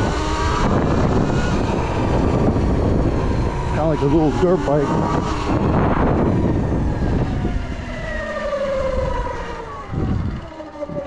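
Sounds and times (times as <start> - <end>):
electric motor whine: 0.0 - 11.0
wind rush on microphone: 0.0 - 11.0.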